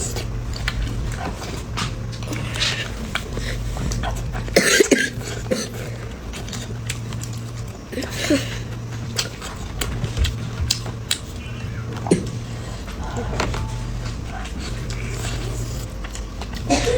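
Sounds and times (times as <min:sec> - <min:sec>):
chewing: 0:00.0 - 0:16.9
low hum: 0:00.0 - 0:16.9.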